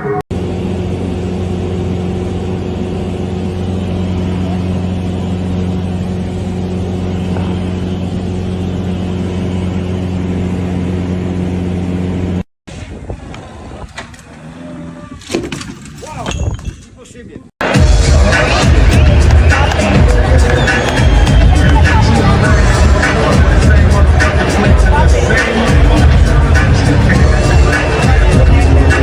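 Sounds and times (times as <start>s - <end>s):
low motor drone: 0.0s - 15.2s, 17.8s - 29.0s.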